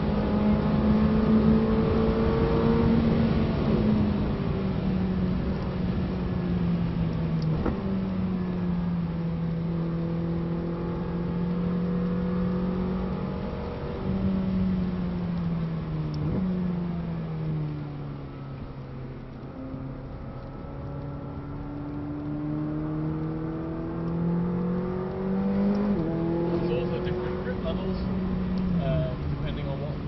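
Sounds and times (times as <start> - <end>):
car engine downshifting: 0.0 - 30.0.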